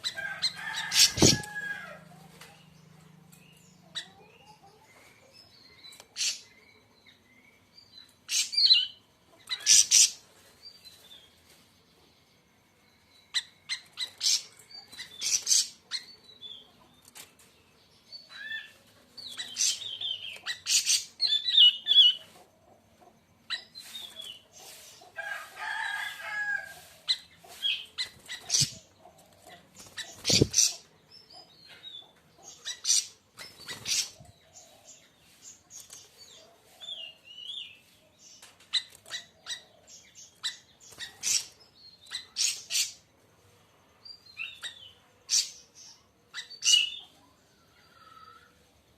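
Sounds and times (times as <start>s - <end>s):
songbird chirping and chattering: 2.3s - 11.5s, 12.1s - 48.6s.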